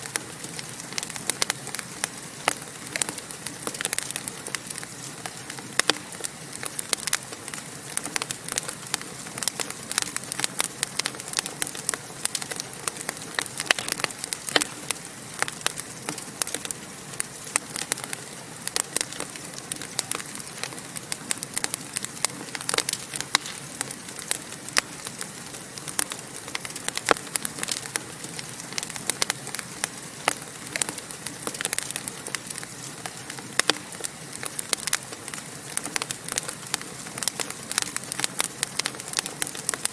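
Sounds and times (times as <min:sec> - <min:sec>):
fire crackling and popping: 0:00.0 - 0:39.9
steady hiss: 0:00.0 - 0:39.9.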